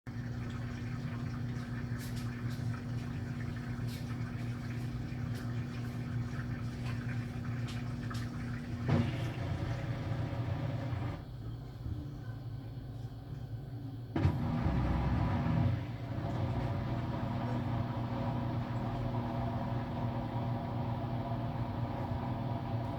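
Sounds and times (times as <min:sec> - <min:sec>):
water noise: 0:00.1 - 0:11.2, 0:14.2 - 0:22.9
washer-dryer humming: 0:00.1 - 0:22.9.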